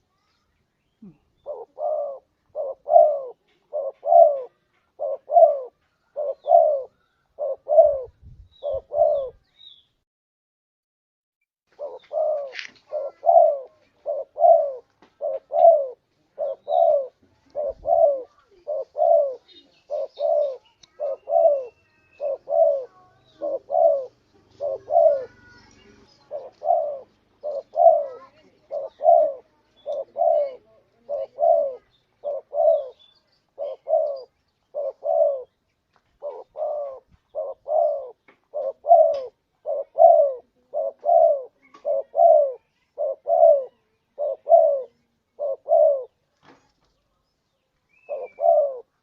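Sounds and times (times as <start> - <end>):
small birds chirping: 0.0 - 10.0, 11.7 - 49.0
dove cooing: 1.0 - 9.4, 11.7 - 35.6, 36.2 - 46.2, 47.9 - 49.0.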